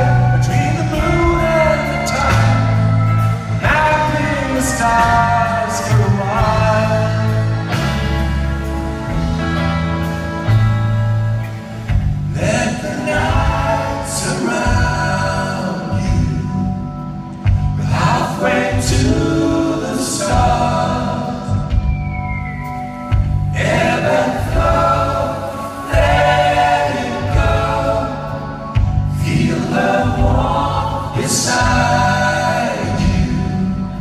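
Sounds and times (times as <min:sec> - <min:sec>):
voices singing in harmony: 0:00.0 - 0:09.2, 0:12.3 - 0:34.0
live rock band playing: 0:00.0 - 0:34.0.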